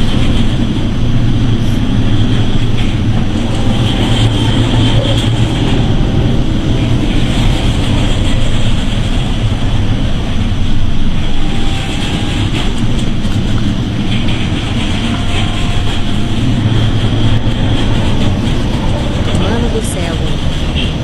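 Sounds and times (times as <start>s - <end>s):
heavy sea: 0.0s - 21.0s
storm wind roaring: 0.0s - 21.0s
wind rumbling on microphone: 0.0s - 21.0s.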